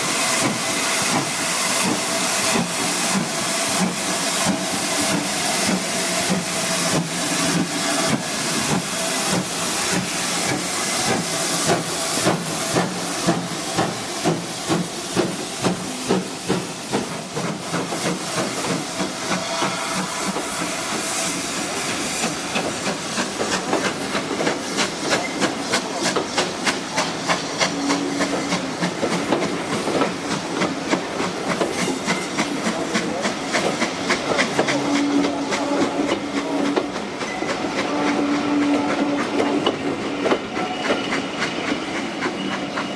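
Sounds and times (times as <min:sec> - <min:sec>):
hiss of steam: 0:00.0 - 0:42.9
steam locomotive exhaust chuffs: 0:00.0 - 0:42.9.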